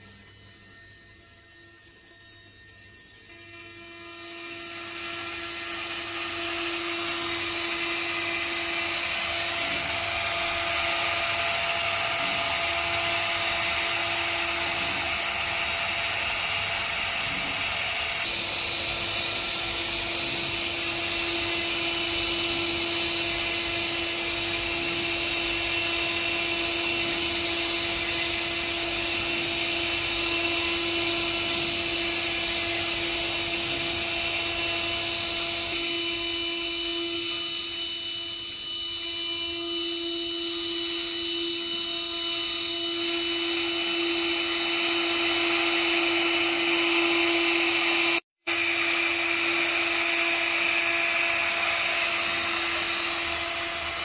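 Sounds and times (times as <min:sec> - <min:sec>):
router spindle high whine: 0:00.0 - 0:54.0.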